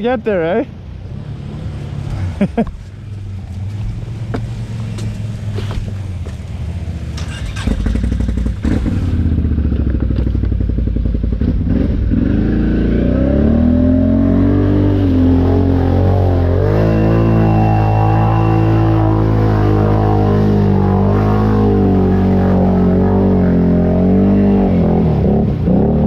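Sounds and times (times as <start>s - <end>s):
atv engine revving: 3.6s - 26.0s.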